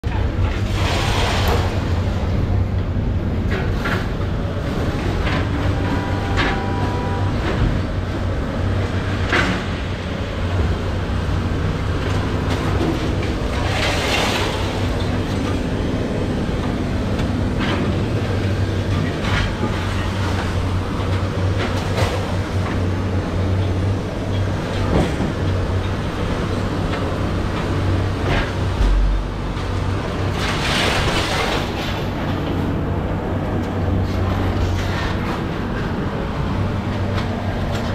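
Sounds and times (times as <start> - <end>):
low engine rumble: 0.0 - 37.9.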